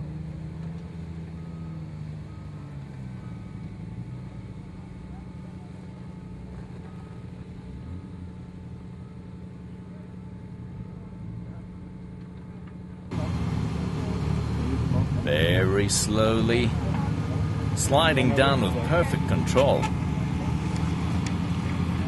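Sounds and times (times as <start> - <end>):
buggy engine running at low revs: 0.0 - 22.0.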